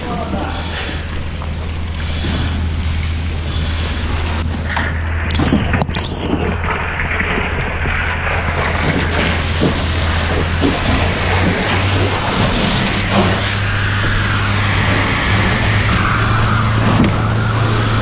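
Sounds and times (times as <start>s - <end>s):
rushing hiss: 0.0s - 5.2s, 8.3s - 18.0s
low engine hum: 0.0s - 18.0s.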